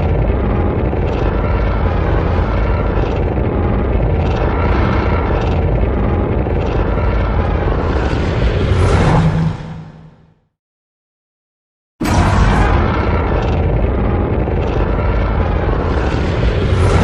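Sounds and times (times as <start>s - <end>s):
pulsing low rumble: 0.0s - 9.7s, 12.0s - 17.0s.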